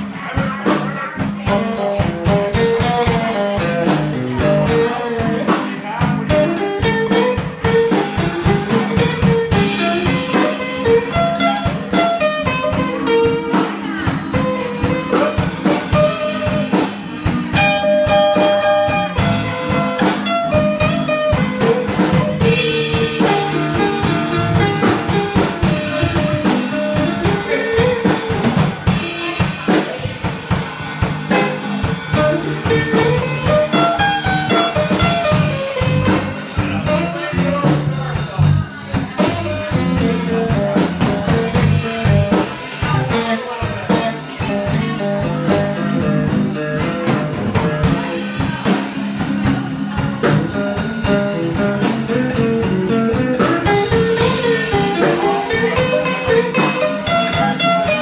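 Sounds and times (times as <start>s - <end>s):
drums beat: 0.0s - 58.0s
electric guitars: 0.0s - 58.0s.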